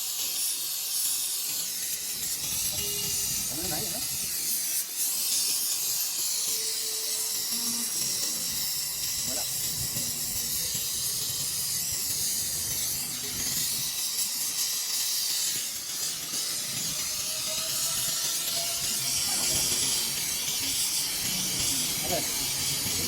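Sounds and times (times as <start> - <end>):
gas torch flame hissing: 0.0 - 23.0.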